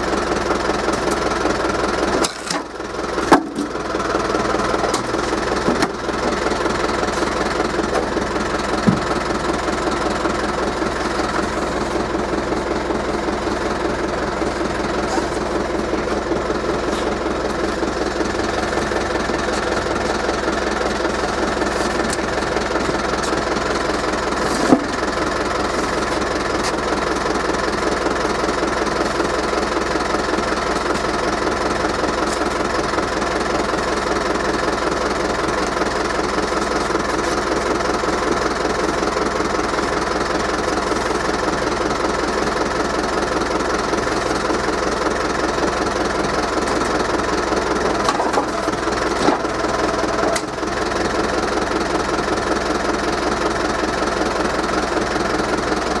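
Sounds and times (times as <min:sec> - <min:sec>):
forklift engine running: 0:00.0 - 0:56.0.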